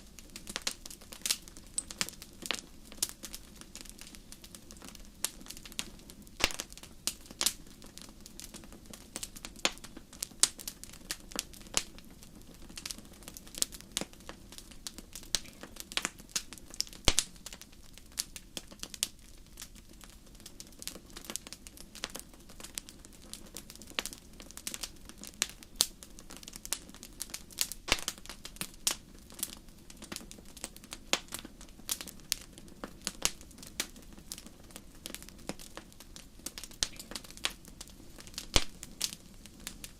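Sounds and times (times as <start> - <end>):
low rush of burning: 0.0 - 39.9
wood fire crackling: 0.0 - 39.9.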